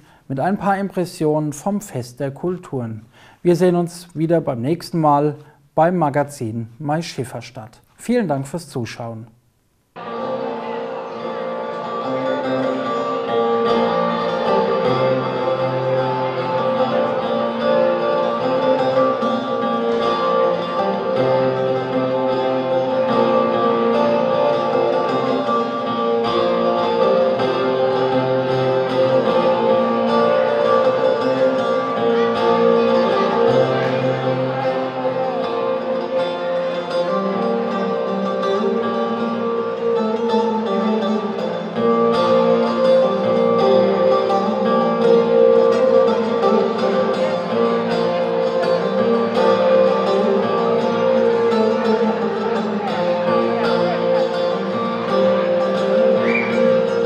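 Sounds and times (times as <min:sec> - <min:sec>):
plucked long-necked lute music: 0:10.0 - 0:57.0.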